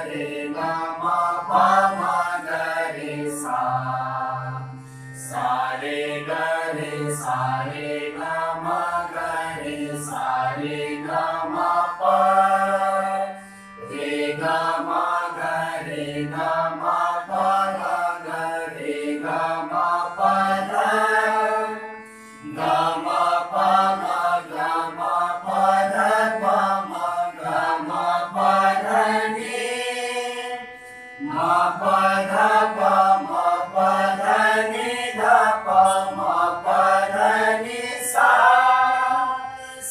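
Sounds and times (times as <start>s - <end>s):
group singing in unison: 0.0s - 39.9s
harmonium: 0.0s - 39.9s.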